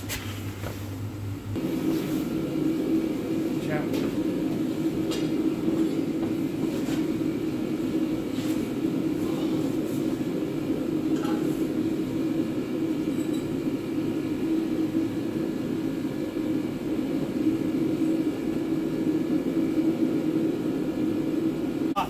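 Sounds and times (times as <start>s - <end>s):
mechanical drone with low hum: 0.0s - 22.0s.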